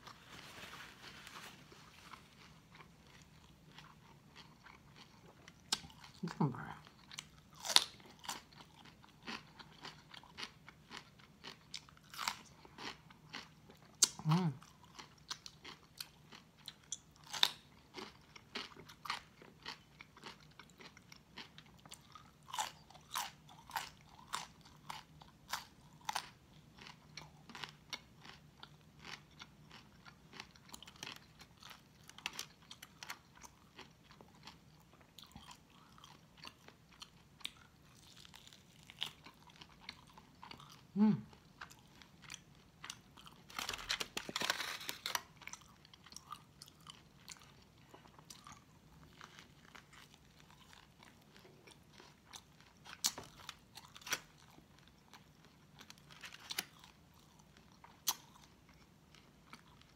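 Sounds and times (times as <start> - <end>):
crunchy chewing of raw vegetables: 0.0 - 59.9.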